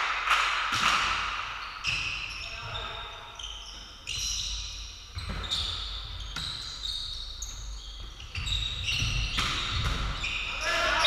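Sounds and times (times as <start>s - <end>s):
shoes squeaking on court floor: 1.4s - 11.0s.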